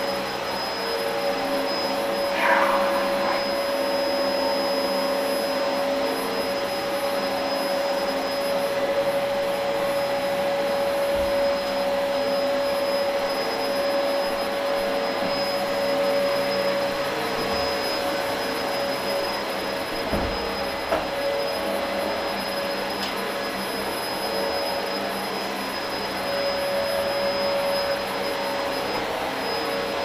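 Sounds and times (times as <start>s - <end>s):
vacuum cleaner on carpet: 0.0s - 30.0s.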